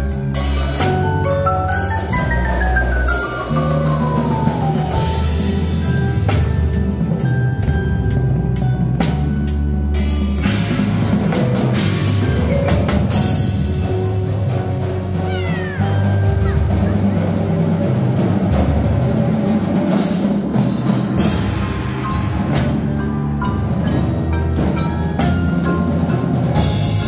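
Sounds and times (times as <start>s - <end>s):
cymbals: 0.0s - 27.0s
drum kit: 0.0s - 27.0s
low bass notes: 0.0s - 27.0s
marimbas: 0.0s - 27.0s.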